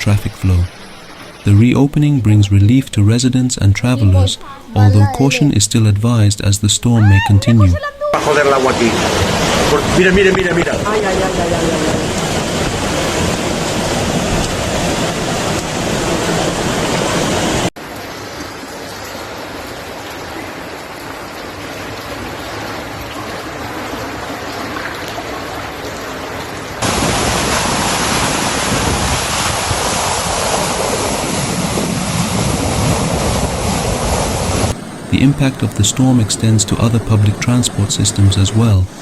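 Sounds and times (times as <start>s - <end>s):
rushing floodwater: 0.0s - 39.0s.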